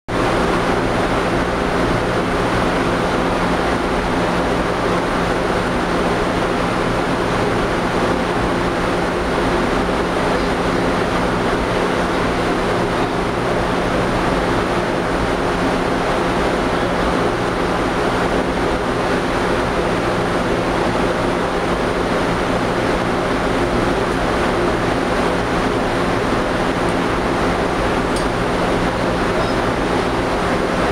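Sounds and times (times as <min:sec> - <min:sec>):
furnace rushing roar: 0:00.1 - 0:30.9.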